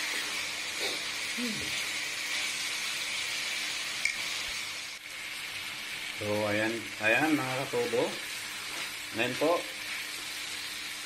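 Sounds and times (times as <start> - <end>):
food sizzling in a hot wok: 0.0 - 11.0.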